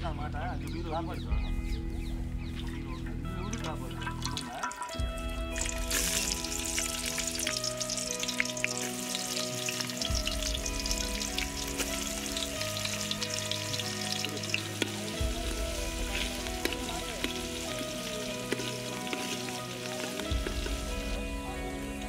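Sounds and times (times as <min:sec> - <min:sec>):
onions sizzling in hot oil: 0:04.1 - 0:22.0.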